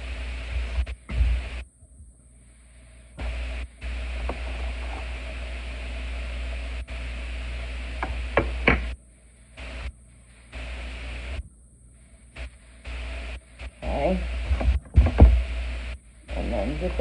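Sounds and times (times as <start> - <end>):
steady hiss with low hum: 0.0 - 17.0.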